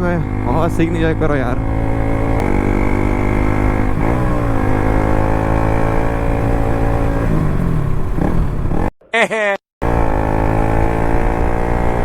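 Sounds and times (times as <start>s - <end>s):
motorcycle engine: 0.0s - 8.9s, 9.8s - 12.0s.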